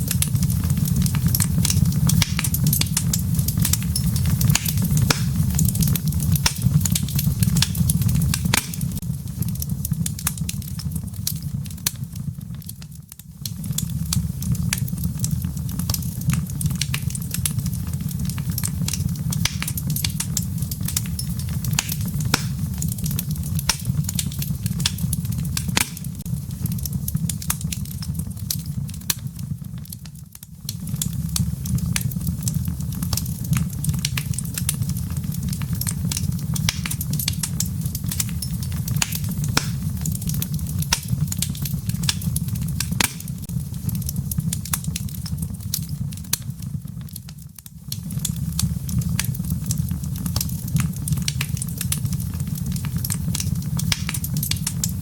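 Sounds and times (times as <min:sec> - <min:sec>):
fireplace embers crackling: 0:00.0 - 0:55.0.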